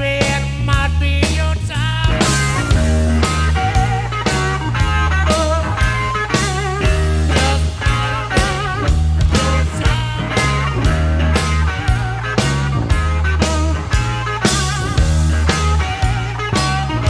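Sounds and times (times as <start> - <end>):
bass line: 0.0 - 17.0
drum hits: 2.1 - 17.0
lead electric guitar bent notes: 2.1 - 17.0.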